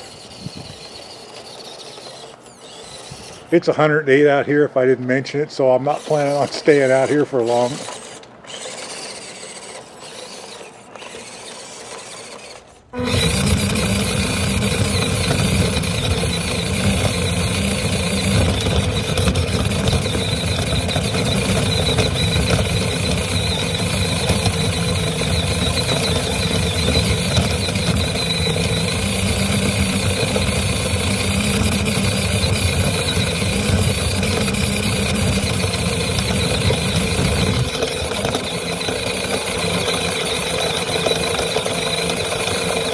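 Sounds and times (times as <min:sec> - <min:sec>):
toy truck motor whining: 0:00.0 - 0:04.4, 0:05.2 - 0:42.9.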